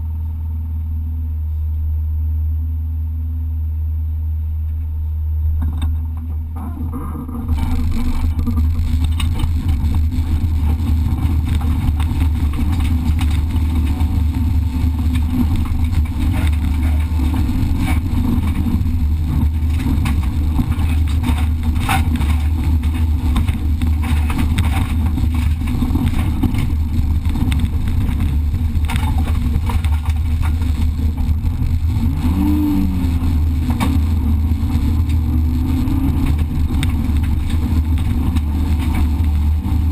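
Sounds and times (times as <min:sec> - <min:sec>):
race car engine revving: 0:05.5 - 0:39.9.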